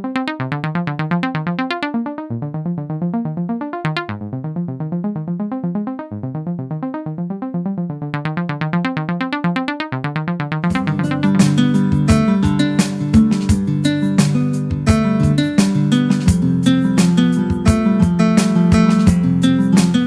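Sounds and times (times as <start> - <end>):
keyboard synthesizer arpeggio: 0.0 - 20.0
bass line: 2.3 - 20.0.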